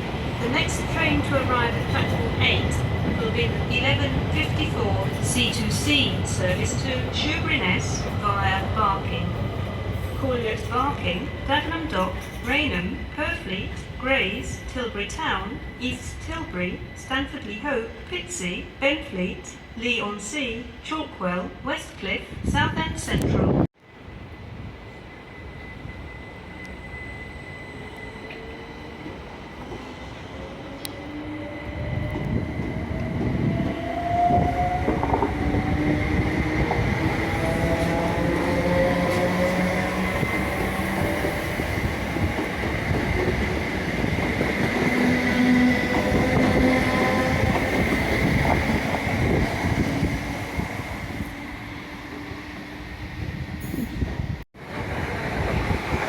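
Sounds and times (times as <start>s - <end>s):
train rumble: 0.0s - 19.6s, 28.3s - 56.0s.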